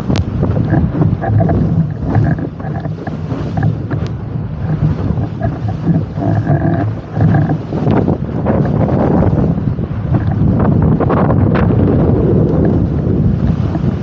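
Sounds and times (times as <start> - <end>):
heavy wind buffeting microphone: 0.0 - 14.0
water rushing and spraying: 0.0 - 14.0.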